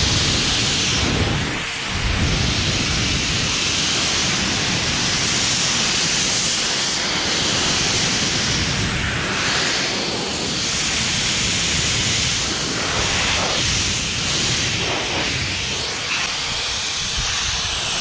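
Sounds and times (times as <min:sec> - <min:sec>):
air blower rushing: 0:00.0 - 0:18.0.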